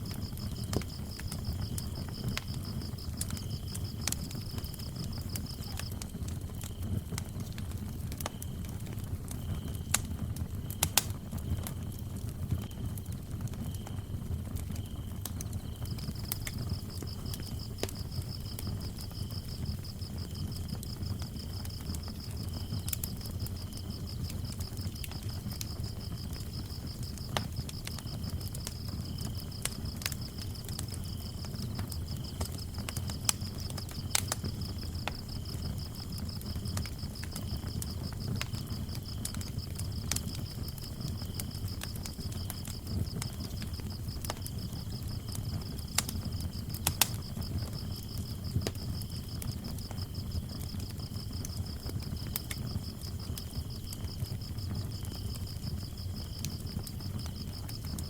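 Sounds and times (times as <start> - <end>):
crickets chirping: 0.0 - 6.0, 14.8 - 58.0
wood fire crackling: 0.0 - 58.0.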